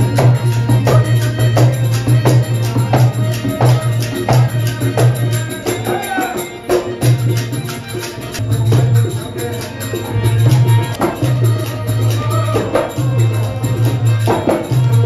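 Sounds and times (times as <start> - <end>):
drum beating steady rhythm: 0.0 - 15.0.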